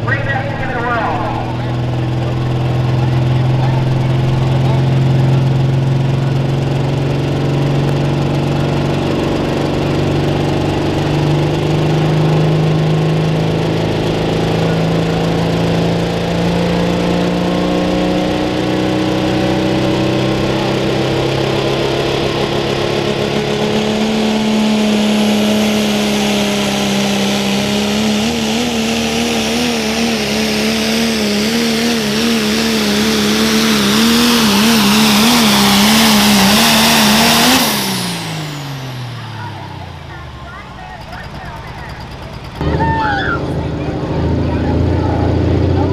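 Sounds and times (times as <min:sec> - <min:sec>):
diesel truck engine under full load: 0:00.0 - 0:45.9.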